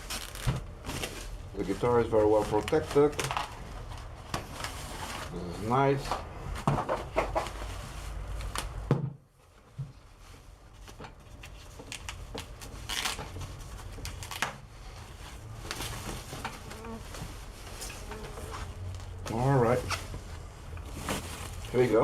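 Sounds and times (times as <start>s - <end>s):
plastic packaging rustling: 0.0s - 6.1s, 10.1s - 22.0s.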